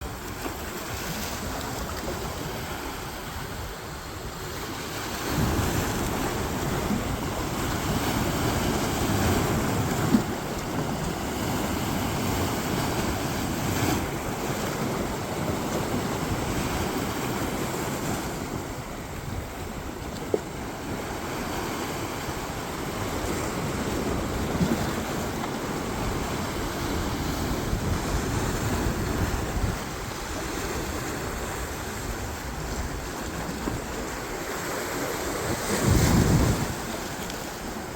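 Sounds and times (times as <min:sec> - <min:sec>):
sea waves washing on shore: 0:00.0 - 0:37.9
wind on microphone: 0:00.0 - 0:37.9.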